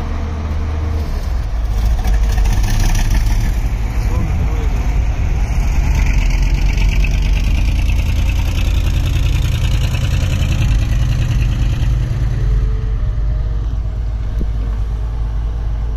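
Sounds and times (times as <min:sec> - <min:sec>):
excavator diesel engine rumbling: 0:00.0 - 0:15.9.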